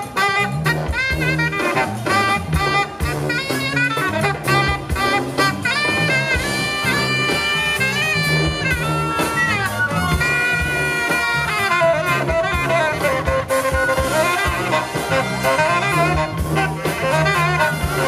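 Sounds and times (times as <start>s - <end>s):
electric bass: 0.0s - 18.0s
saxophone melody: 0.0s - 18.0s.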